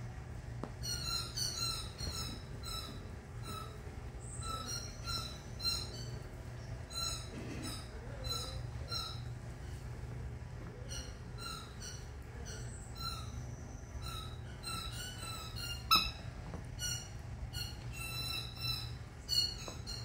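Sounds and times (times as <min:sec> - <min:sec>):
puppies squealing: 0:00.8 - 0:06.3, 0:06.9 - 0:09.4, 0:10.7 - 0:20.0.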